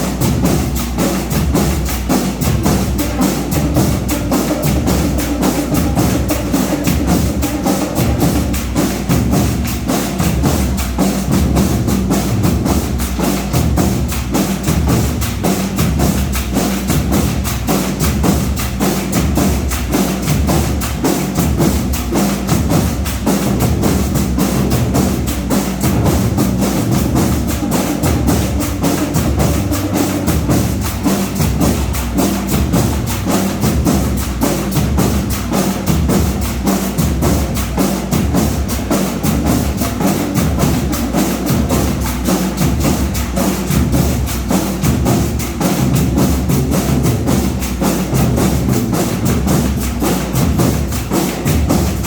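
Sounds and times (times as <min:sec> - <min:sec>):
fast steady drum beat: 0:00.0 - 0:52.0
marching band playing: 0:00.0 - 0:52.0.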